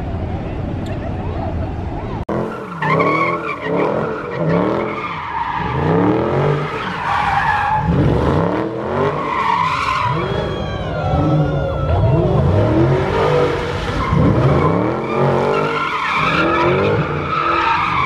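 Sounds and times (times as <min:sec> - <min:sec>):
car engines revving: 0:00.0 - 0:18.0
tires squealing: 0:02.1 - 0:18.0.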